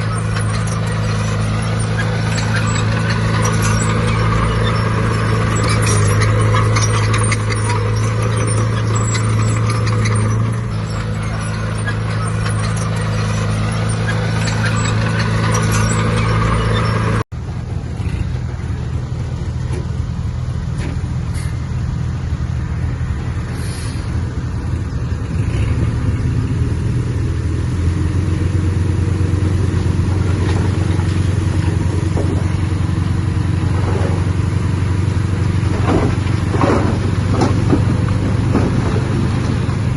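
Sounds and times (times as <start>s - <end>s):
clanking and rattling: 0.0s - 21.8s, 29.6s - 39.9s
heavy diesel engine running: 0.0s - 39.9s.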